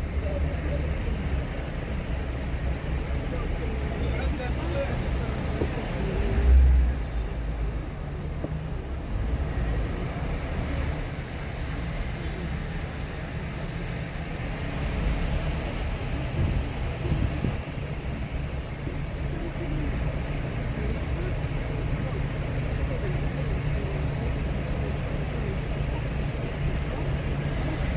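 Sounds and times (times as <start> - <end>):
car engine and tyre rumble: 0.0 - 27.9.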